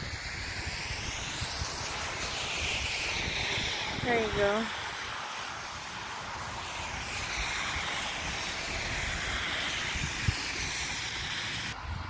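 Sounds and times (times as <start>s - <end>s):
tyres hissing on wet road: 0.0s - 12.0s.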